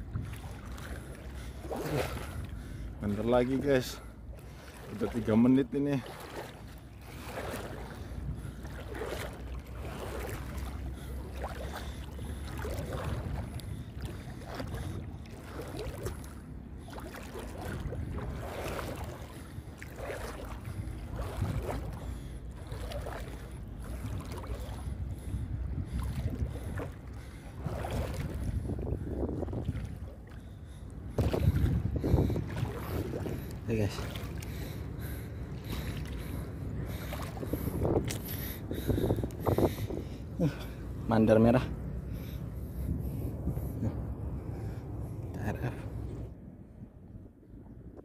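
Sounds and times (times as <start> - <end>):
water sloshing: 0.0 - 46.4
wind rumbling on microphone: 0.0 - 48.0.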